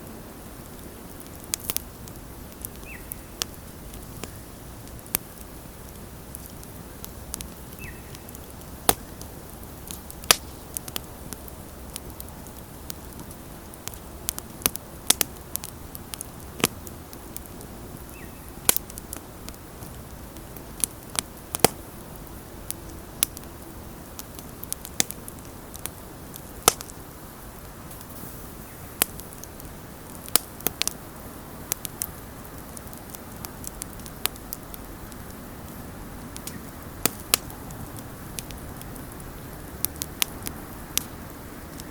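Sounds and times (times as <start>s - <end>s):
bonfire crackling and popping: 0.0s - 41.9s
hiss of flames: 0.0s - 41.9s.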